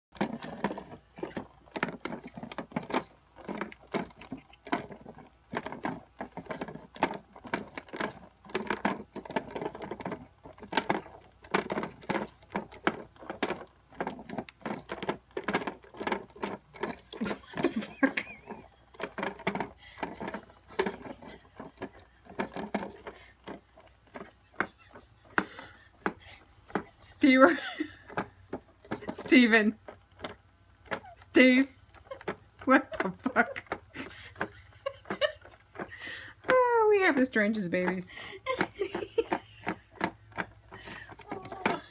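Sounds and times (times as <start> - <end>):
plastic cat toy clicking and rattling: 0.1 - 41.9.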